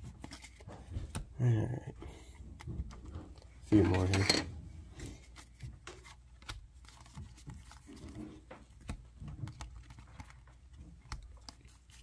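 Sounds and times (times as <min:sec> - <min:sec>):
cards tapping and rustling: 0:00.0 - 0:01.4, 0:02.0 - 0:12.0.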